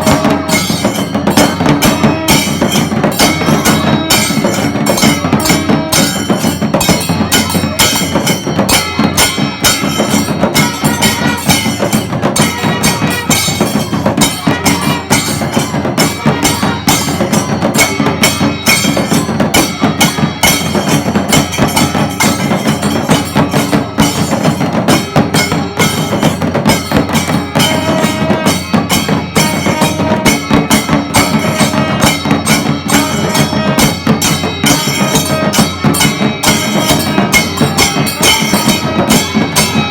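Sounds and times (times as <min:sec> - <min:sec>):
drums beating fast: 0:00.0 - 0:39.9
metal hand cymbals: 0:00.0 - 0:39.9.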